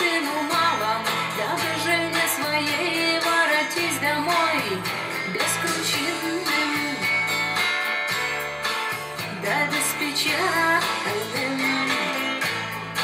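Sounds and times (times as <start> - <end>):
song through speakers: 0.0 - 13.0.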